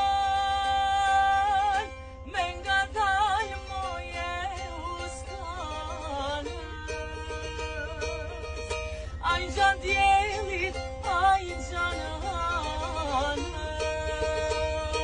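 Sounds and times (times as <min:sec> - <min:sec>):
plucked lute folk melody: 0:00.0 - 0:15.0
voices singing along: 0:00.0 - 0:15.0.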